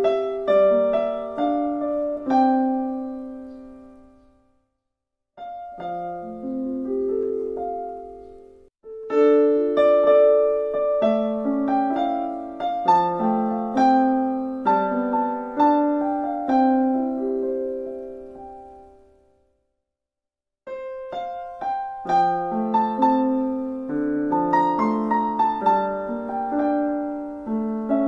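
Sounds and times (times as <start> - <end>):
solo piano music: 0.0 - 4.7, 5.4 - 19.7, 20.7 - 28.0.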